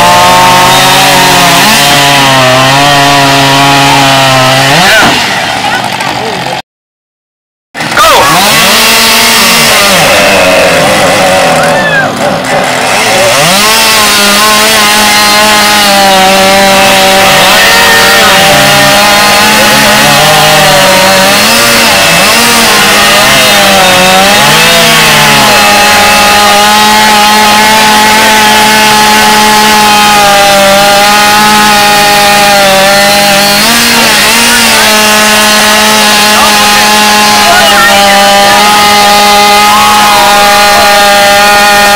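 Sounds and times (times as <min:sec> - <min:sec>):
chainsaw cutting through log: 0:00.0 - 0:06.6, 0:07.8 - 0:41.9.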